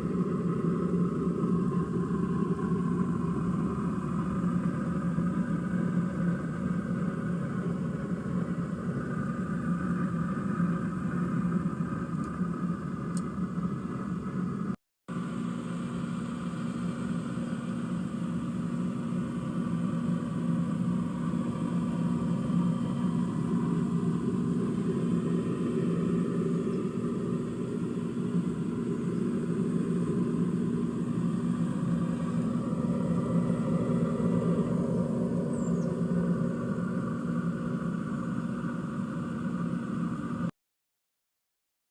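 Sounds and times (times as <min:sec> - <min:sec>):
low mechanical hum: 0:00.0 - 0:40.5.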